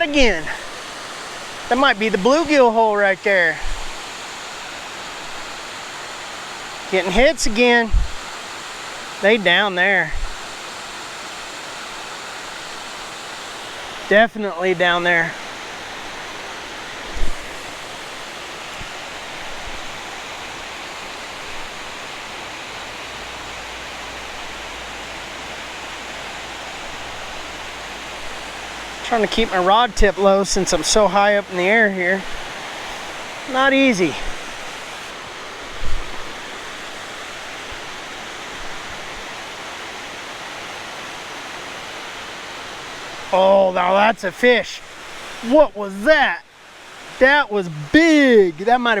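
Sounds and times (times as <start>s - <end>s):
water rushing over spillway: 0.0s - 49.0s.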